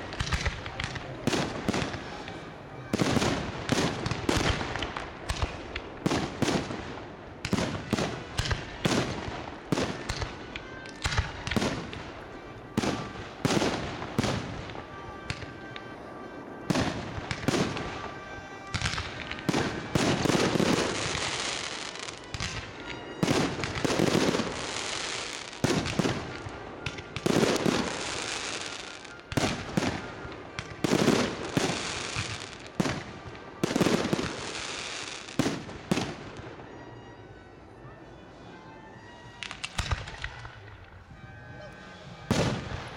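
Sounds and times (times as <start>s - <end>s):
fireworks bursting: 0.0s - 37.1s, 38.9s - 42.9s.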